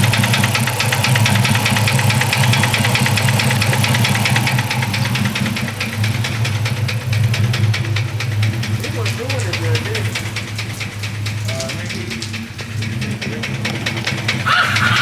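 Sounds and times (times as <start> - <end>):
engine idling: 0.0 - 15.0
fast ticking knock: 0.0 - 15.0.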